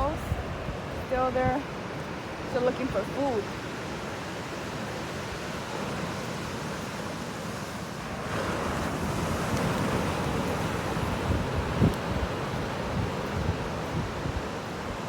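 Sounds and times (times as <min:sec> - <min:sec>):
ocean surf washing on shore: 0:00.0 - 0:15.0
wind rumbling on microphone: 0:00.0 - 0:15.0.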